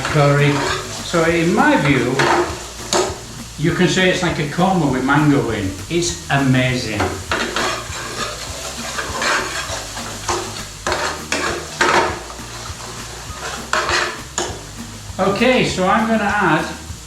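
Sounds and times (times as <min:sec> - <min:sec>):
sauce sizzling: 0:00.0 - 0:17.0
utensil scraping frying pan: 0:00.0 - 0:17.0.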